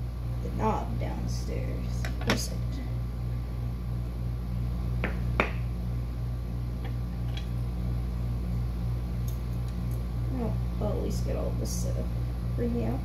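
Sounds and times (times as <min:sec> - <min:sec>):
low pulsing hum: 0:00.0 - 0:13.0.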